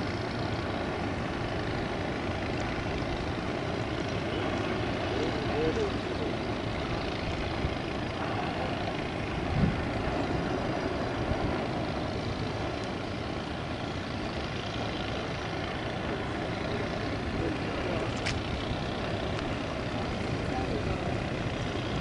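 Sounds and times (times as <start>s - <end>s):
distant turboprop plane rumble: 0.0s - 22.0s.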